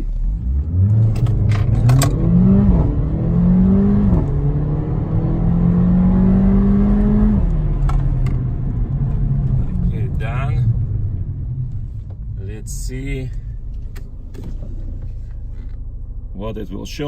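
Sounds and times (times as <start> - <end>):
car engine accelerating: 0.0 - 16.4.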